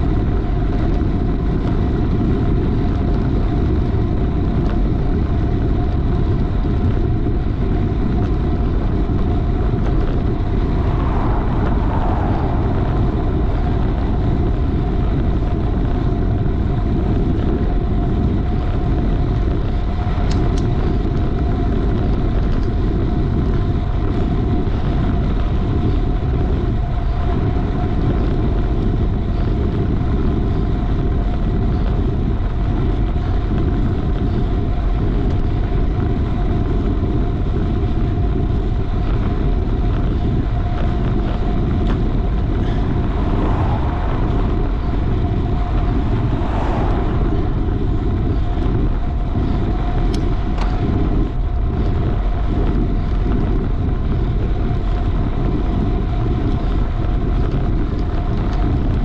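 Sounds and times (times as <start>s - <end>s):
bicycle road noise: 0.0s - 59.0s
wind buffeting microphone: 0.0s - 59.0s.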